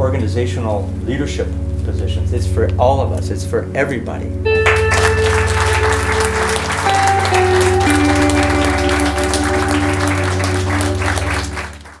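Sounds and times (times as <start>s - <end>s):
background music held notes: 0.0s - 12.0s
steady low drone: 0.0s - 12.0s.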